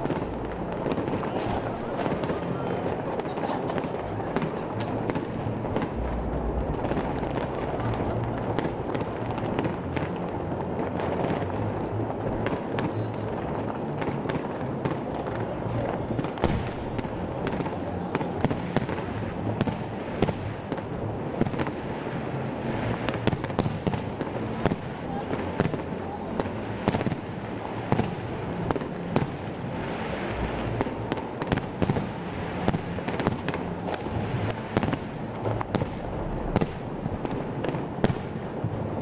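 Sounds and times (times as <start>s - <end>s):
fireworks bursting: 0.0s - 39.0s.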